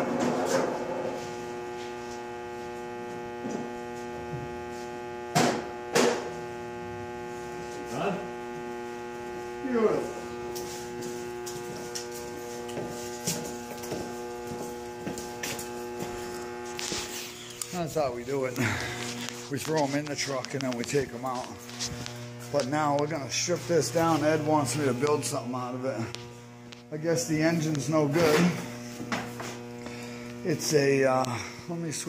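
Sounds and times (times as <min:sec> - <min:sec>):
electrical hum: 0:00.0 - 0:32.0.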